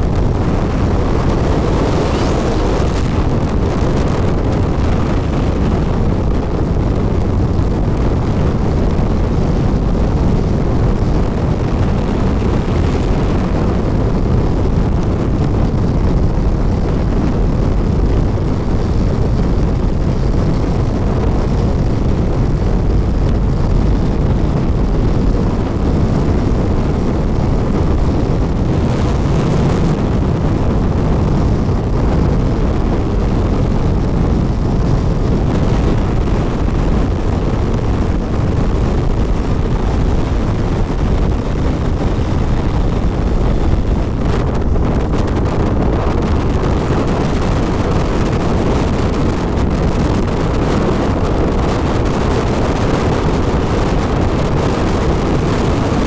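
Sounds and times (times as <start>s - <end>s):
motorcycle road noise: 0.0s - 56.0s
wind buffeting microphone: 0.0s - 56.0s
wind rushing: 0.0s - 56.0s.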